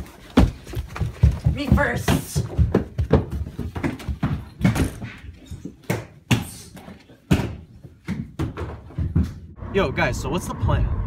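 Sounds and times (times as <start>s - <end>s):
footsteps running up carpeted stairs: 0.0s - 9.6s.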